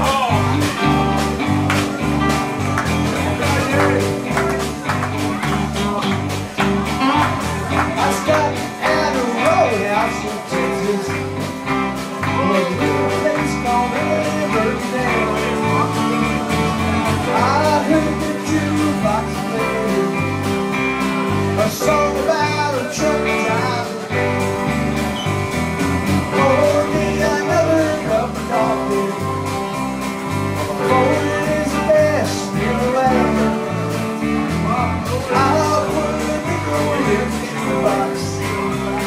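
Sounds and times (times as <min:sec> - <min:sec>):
drums beat: 0:00.0 - 0:39.0
electric bass walking line: 0:00.0 - 0:39.0
electric guitars: 0:00.0 - 0:39.0.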